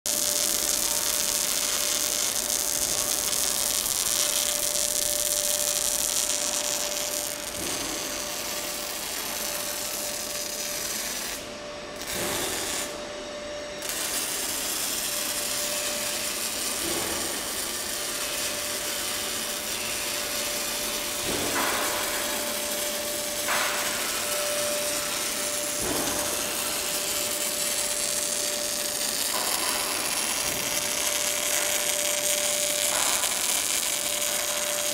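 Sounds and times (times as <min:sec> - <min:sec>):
welding arc hissing: 0:00.1 - 0:13.0, 0:13.8 - 0:34.9.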